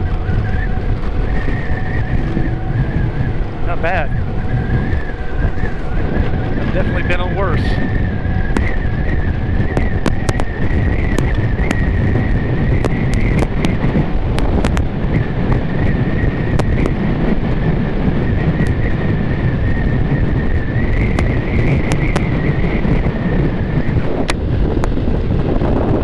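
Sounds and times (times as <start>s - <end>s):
scooter engine rumble: 0.0s - 26.0s
steady high whine: 0.0s - 26.0s
wind rushing over microphone: 0.0s - 26.0s.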